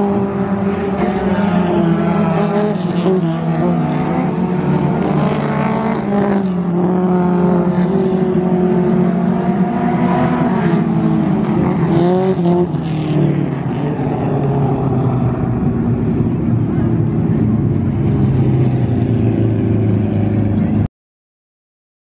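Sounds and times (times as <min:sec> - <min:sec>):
stock car engines racing: 0:00.0 - 0:20.9.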